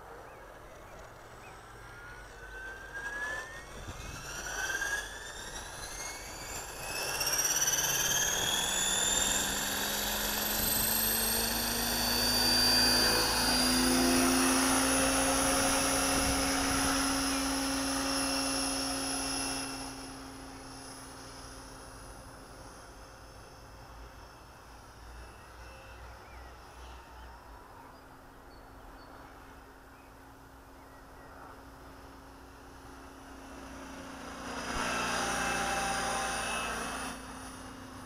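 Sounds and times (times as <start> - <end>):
model helicopter rotor whine: 0.0 - 38.0.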